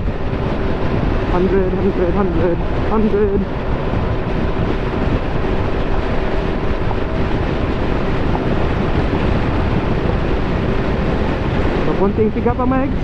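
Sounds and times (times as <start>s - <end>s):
wind rushing on helmet microphone: 0.0s - 13.0s.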